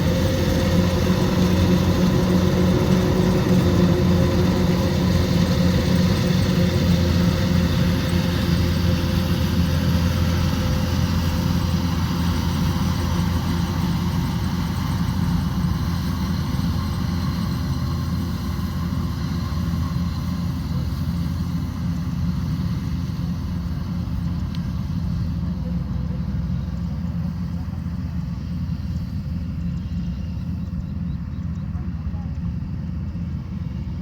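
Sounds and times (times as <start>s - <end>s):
combine harvester engine running: 0.0s - 34.0s.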